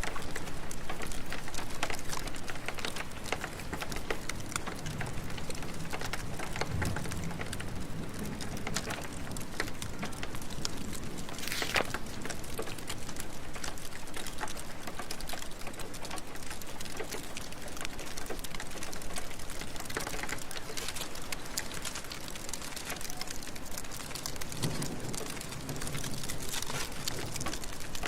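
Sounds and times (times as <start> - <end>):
steady rain: 0.0 - 28.0
wood fire crackling: 0.0 - 28.0.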